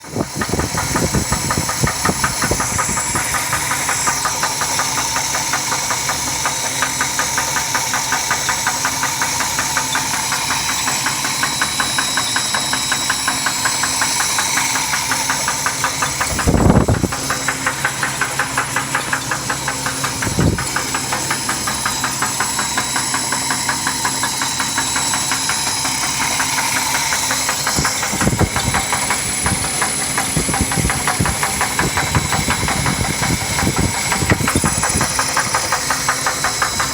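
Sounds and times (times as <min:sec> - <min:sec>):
engine running with rhythmic knock: 0:00.0 - 0:36.9.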